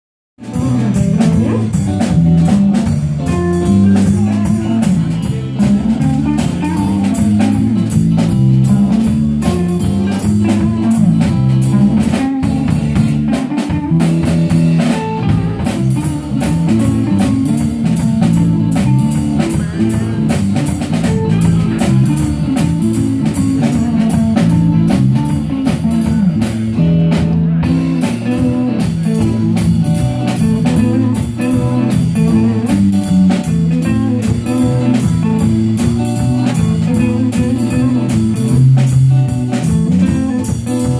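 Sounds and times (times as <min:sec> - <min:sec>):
live rock band playing: 0:00.4 - 0:40.9.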